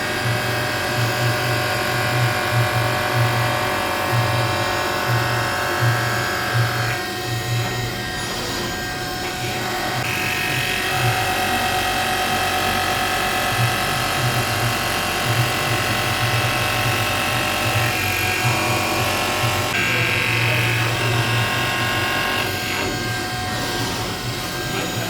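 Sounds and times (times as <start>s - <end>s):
milling machine spindle whine: 0.0s - 25.0s.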